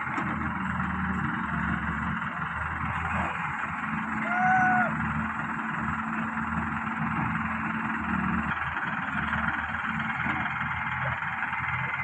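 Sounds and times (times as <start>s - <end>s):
diesel machinery humming: 0.0s - 12.0s.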